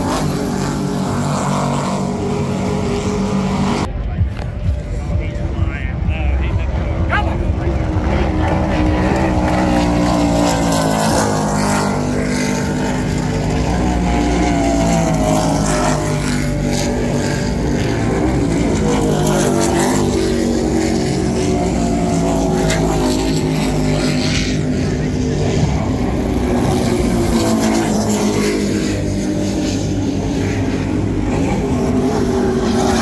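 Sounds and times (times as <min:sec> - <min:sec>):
race boat engines droning: 0:00.0 - 0:33.0.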